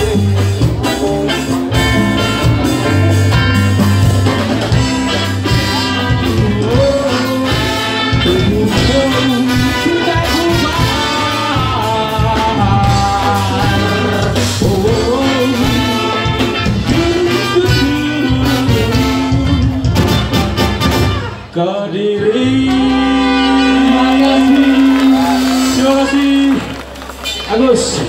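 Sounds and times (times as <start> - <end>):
drums: 0.0 - 21.6, 22.2 - 28.0
electric guitar: 0.0 - 21.6, 22.4 - 28.0
bass: 0.0 - 28.0
horn section: 0.0 - 28.0.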